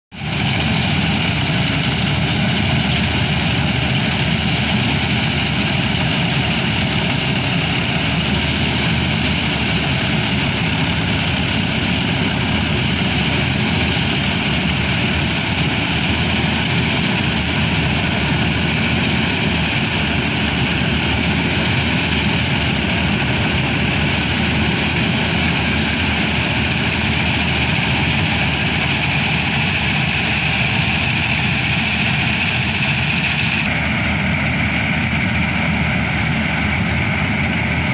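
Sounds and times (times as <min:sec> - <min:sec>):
diesel tractor engine under load: 0:00.2 - 0:37.9.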